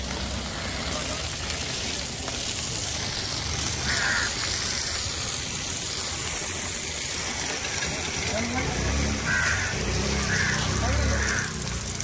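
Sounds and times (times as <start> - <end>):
open-air market background noise: 0.0 - 12.0.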